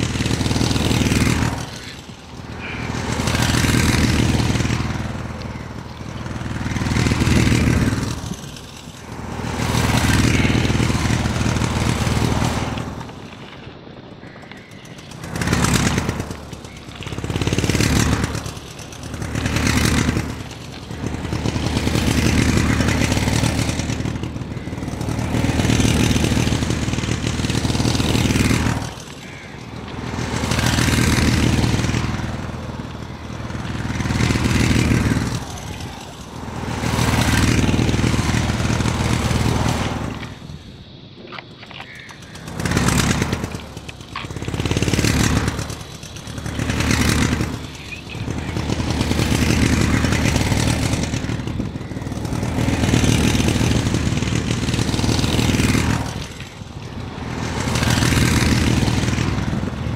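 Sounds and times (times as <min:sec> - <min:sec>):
engine: 0:00.0 - 0:59.9.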